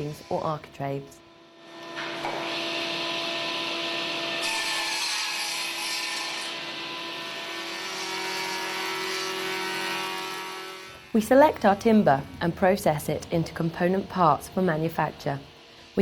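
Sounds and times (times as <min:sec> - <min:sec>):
woodworking machine humming: 0:00.0 - 0:16.0.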